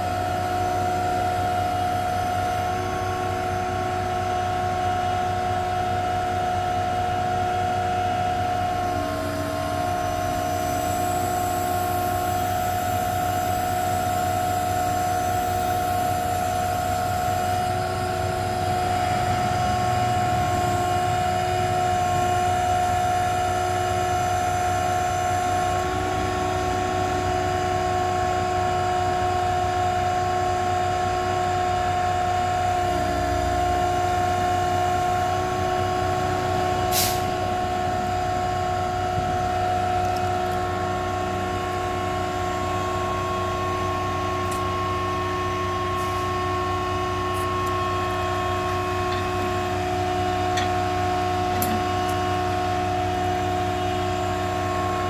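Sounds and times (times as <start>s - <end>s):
crane hoist whining: 0.0s - 55.0s.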